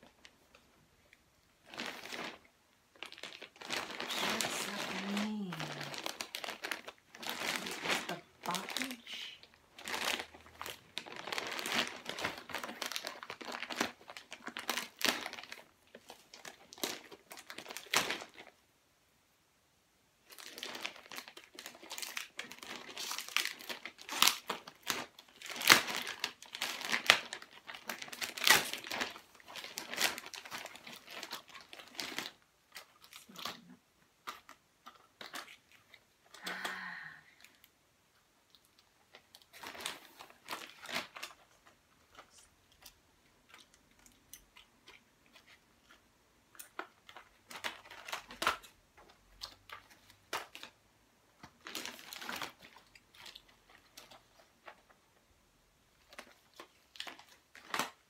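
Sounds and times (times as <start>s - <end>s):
plastic bag crinkling: 0.0s - 18.6s, 20.2s - 37.7s, 38.4s - 50.8s, 51.4s - 55.1s, 55.9s - 58.0s
plastic tearing: 1.6s - 18.6s, 20.3s - 36.8s, 38.5s - 50.8s, 51.4s - 55.0s, 56.0s - 58.0s.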